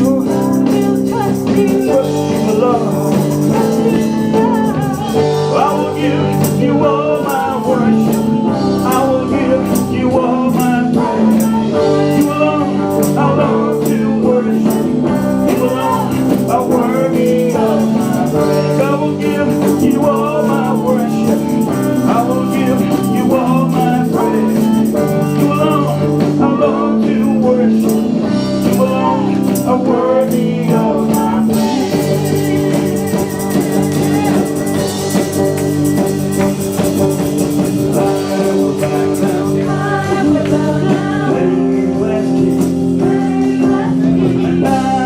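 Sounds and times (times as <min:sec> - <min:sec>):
live band music: 0:00.0 - 0:45.0.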